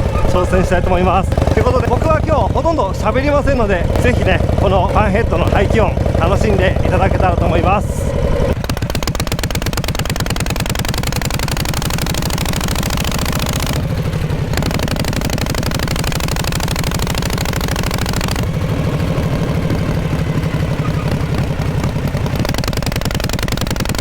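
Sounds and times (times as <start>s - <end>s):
motorcycle exhaust running: 0.0s - 24.0s.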